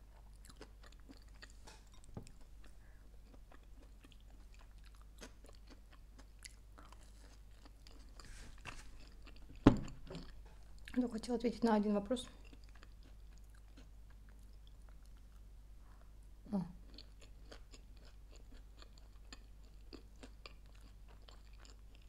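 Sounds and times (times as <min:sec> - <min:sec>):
faint chewing of a sandwich: 0:00.0 - 0:11.0, 0:12.2 - 0:22.0.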